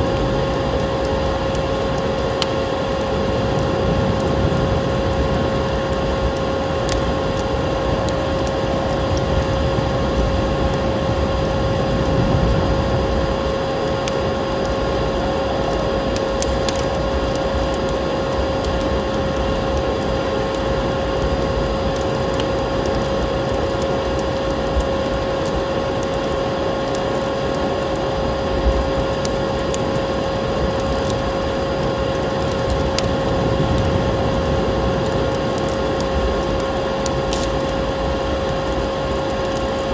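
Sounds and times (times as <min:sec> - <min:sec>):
constant low hum: 0:00.0 - 0:39.9
steady rushing noise: 0:00.0 - 0:39.9
wood fire crackling: 0:00.0 - 0:39.9.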